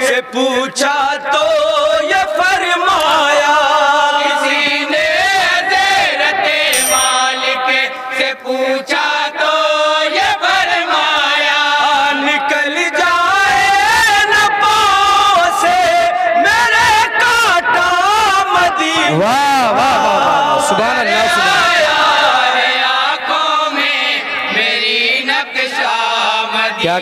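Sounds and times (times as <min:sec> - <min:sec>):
men singing devotional hymn in chorus: 0:00.0 - 0:27.0.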